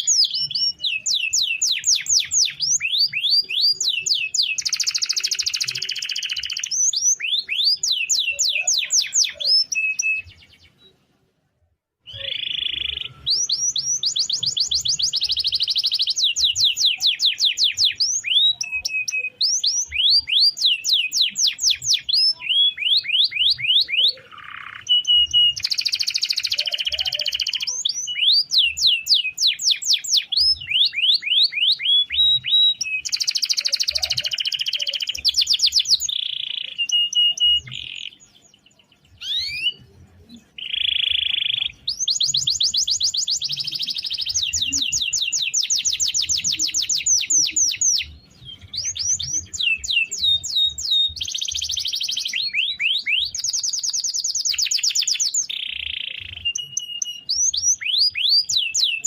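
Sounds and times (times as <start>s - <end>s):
canary singing trills: 0.0s - 11.1s, 12.0s - 59.0s.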